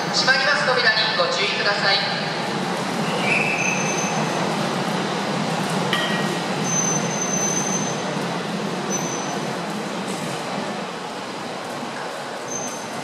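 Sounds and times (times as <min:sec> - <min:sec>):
steady train hum: 0:00.0 - 0:13.0
train doors closing: 0:02.2 - 0:13.0.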